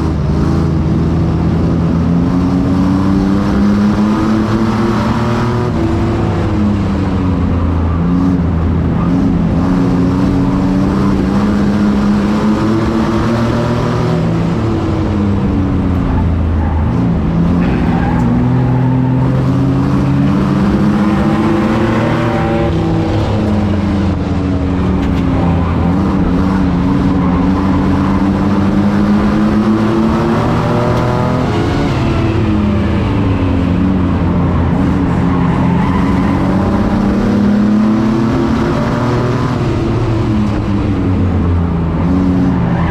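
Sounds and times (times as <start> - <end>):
truck engine revving: 0.0 - 42.9
tyre and road noise: 0.0 - 42.9.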